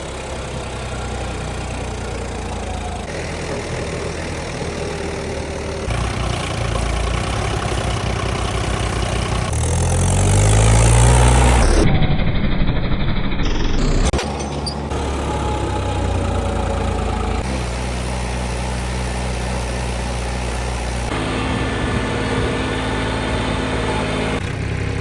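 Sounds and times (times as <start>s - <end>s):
engine revving up: 0.0s - 14.3s, 14.9s - 25.0s
tractor diesel engines running: 0.0s - 25.0s.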